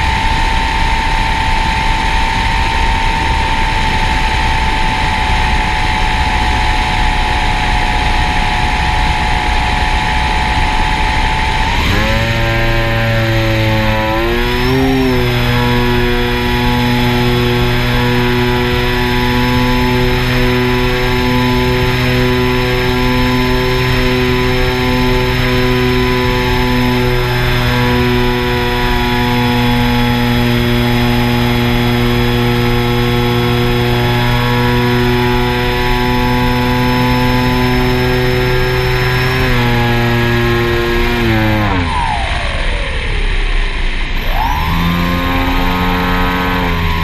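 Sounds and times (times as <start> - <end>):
motor running steadily: 0.0 - 47.0.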